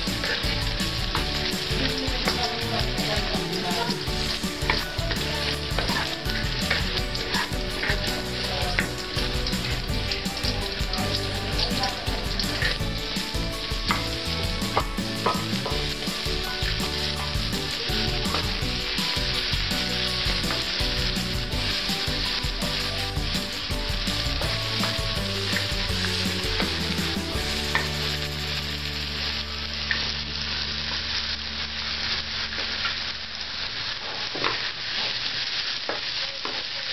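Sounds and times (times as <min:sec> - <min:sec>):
spatula scraping metal wok: 0:00.0 - 0:30.0
food sizzling in hot oil: 0:00.0 - 0:36.9.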